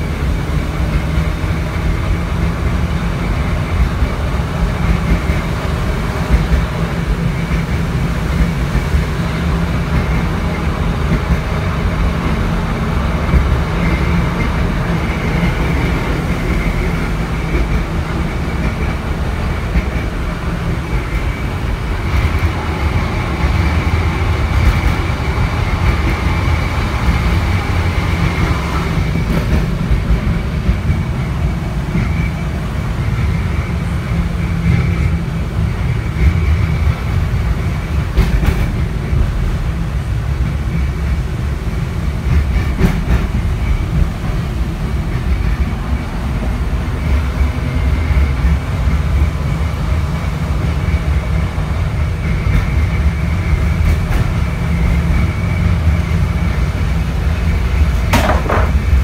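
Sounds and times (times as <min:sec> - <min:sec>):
tram wheels and motors rumbling: 0:00.0 - 0:59.0.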